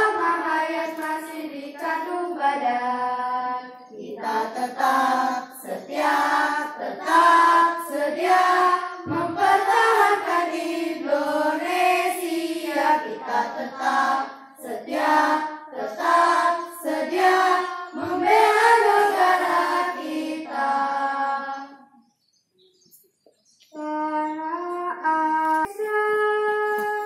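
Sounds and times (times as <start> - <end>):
children singing: 0.0 - 21.9.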